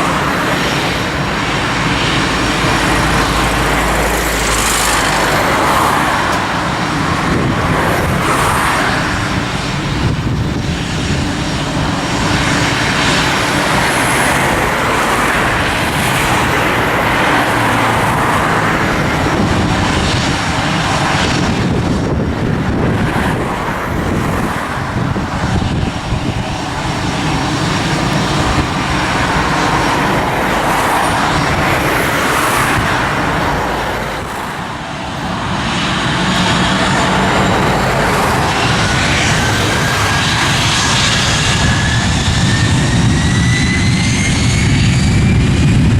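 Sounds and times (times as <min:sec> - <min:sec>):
jet aircraft engine: 0:00.0 - 0:45.9
road traffic noise: 0:00.0 - 0:45.9.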